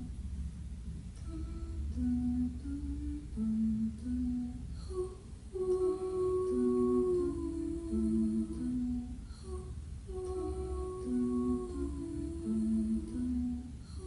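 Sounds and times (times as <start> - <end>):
person humming: 1.2 - 14.0.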